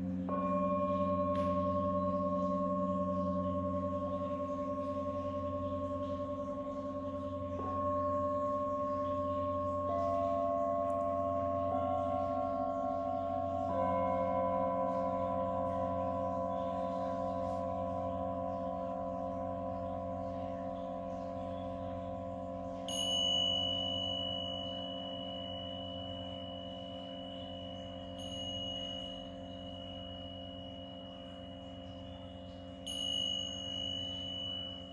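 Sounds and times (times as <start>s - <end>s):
low drone of held tones: 0.0s - 34.9s
pulsing hum of bowls: 0.0s - 34.9s
singing bowl struck with mallet: 0.0s - 34.9s
tingsha cymbals ringing: 0.0s - 34.9s.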